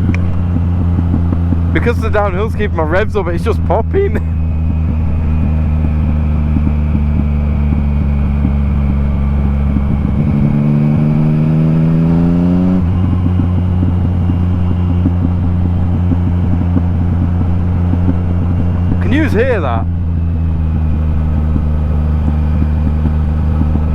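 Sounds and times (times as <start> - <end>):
exhaust popping and crackling: 0.0 - 23.9
motorcycle engine running: 0.0 - 23.9.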